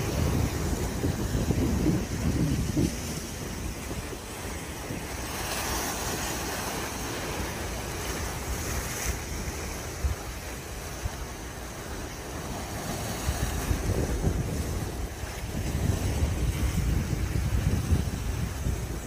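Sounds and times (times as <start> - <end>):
waves splashing against rocks: 0.0 - 19.0
wind buffeting microphone: 0.0 - 19.0.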